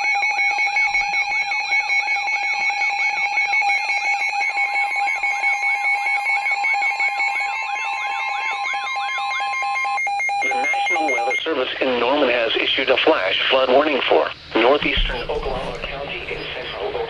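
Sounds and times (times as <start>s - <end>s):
steady warning alarm tone: 0.0s - 13.9s, 14.6s - 17.0s.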